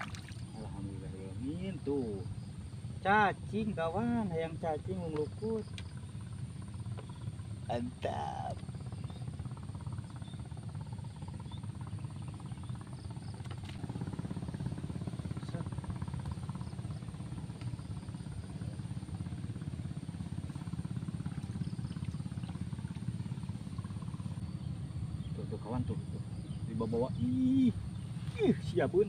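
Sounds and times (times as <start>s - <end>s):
motor running with low rumble: 0.0s - 29.0s.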